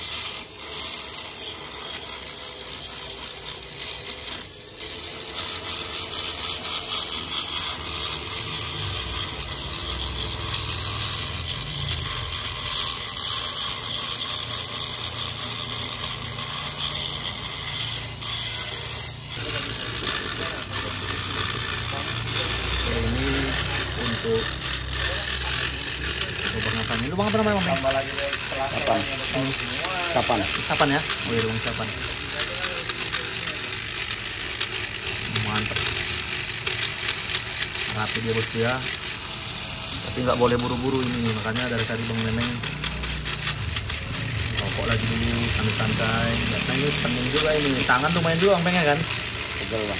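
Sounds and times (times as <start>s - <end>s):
tool rasping metal: 0.0s - 49.9s.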